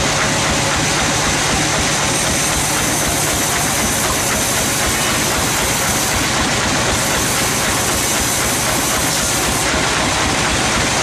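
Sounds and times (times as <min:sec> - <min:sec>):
band sawmill running: 0:00.0 - 0:11.0.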